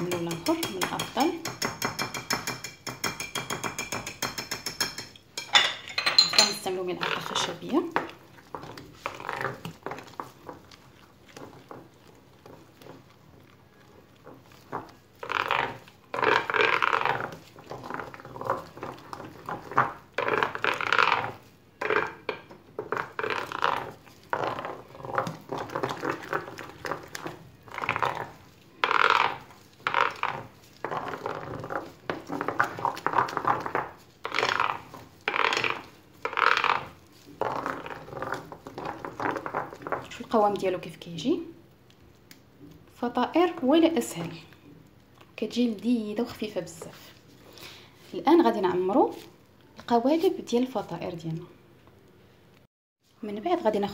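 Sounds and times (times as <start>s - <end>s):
spoon stirring batter in bowl: 0.0s - 51.0s.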